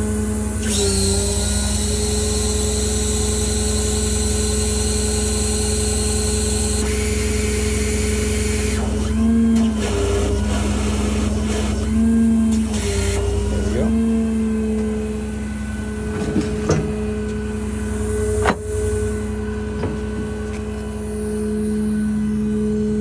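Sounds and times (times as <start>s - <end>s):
hydraulic system whining: 0.0s - 23.0s.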